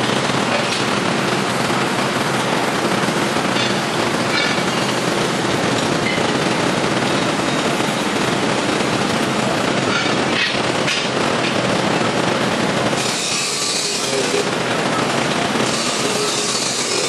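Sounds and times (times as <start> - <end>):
baler rapid mechanical clatter: 0.0 - 17.0.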